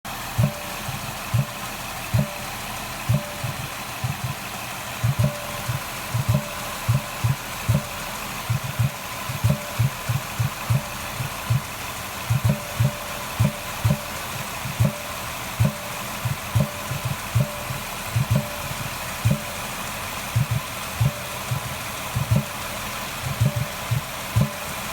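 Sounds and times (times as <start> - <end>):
car engine idling: 0.1 - 24.9
low thumps from air intake: 0.3 - 24.9.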